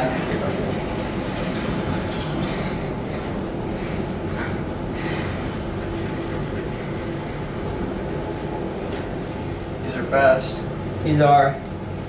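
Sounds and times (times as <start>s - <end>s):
elevator car rumble and hum: 0.0s - 12.0s.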